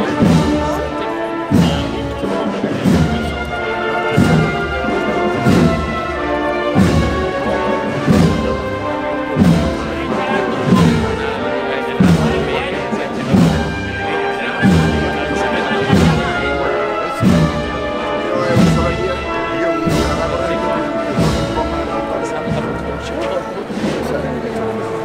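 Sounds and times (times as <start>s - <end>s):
heavy drum beat: 0.0s - 24.4s
brass chords: 0.0s - 25.0s.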